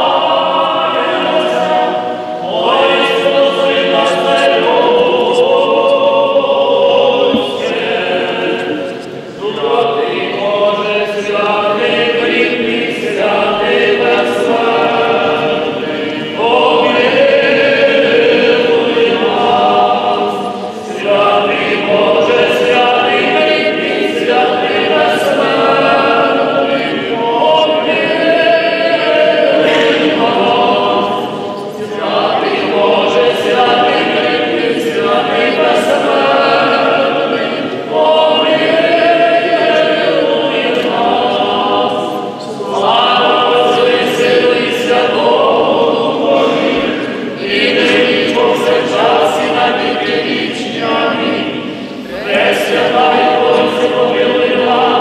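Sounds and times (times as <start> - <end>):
choir singing unaccompanied chant: 0.0 - 55.0.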